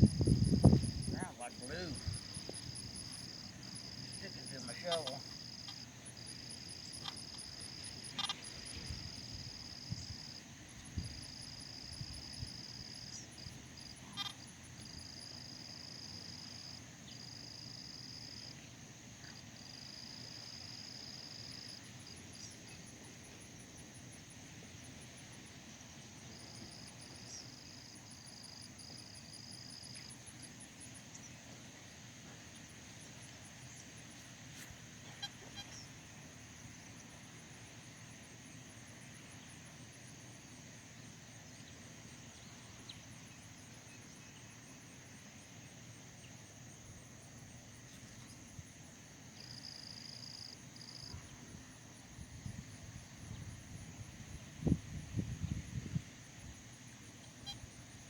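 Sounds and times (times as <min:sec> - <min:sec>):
insect high drone: 0:00.0 - 0:58.0
insects buzzing trills: 0:00.0 - 0:58.0
insects chirping: 0:00.0 - 0:58.0.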